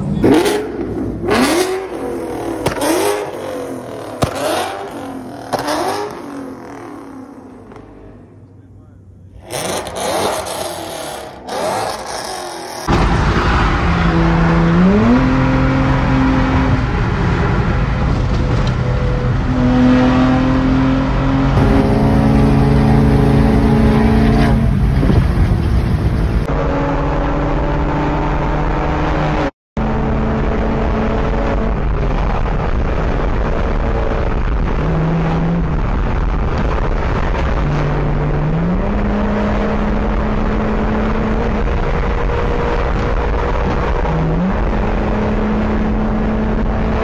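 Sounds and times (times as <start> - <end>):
car engine droning: 0.0 - 47.0
car engines revving: 0.0 - 47.0.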